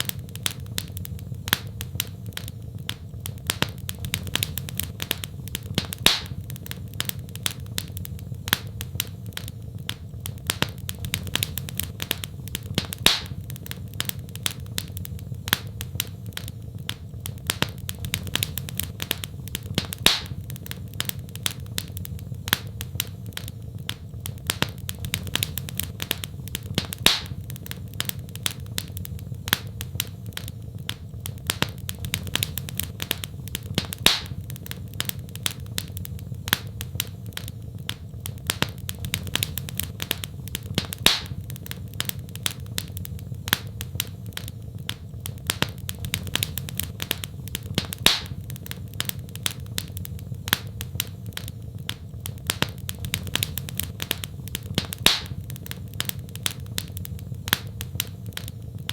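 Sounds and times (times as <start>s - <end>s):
fire crackling: 0.0s - 58.9s
loud fire pop: 0.0s - 58.9s.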